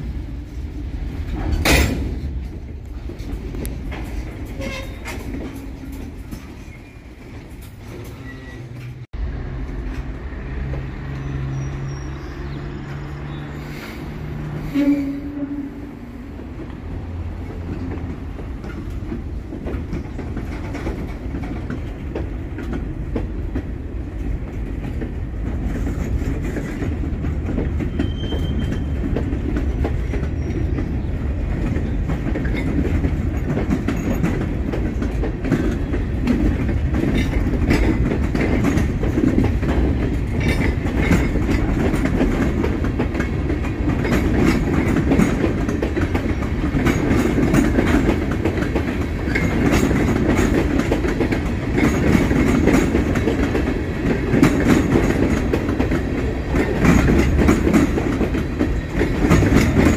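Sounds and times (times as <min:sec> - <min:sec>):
train wheels clicking over rail joints: 0:00.0 - 0:11.8, 0:13.6 - 0:59.9
freight train rumble: 0:00.0 - 0:59.9.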